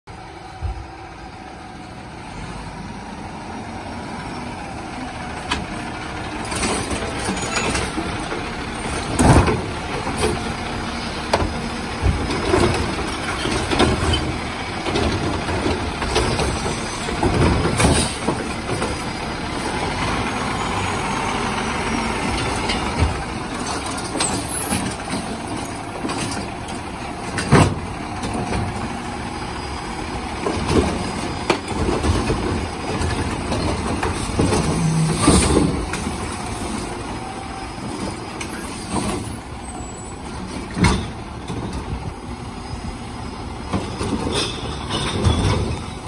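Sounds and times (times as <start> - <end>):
garbage truck diesel engine: 0.1 - 46.0.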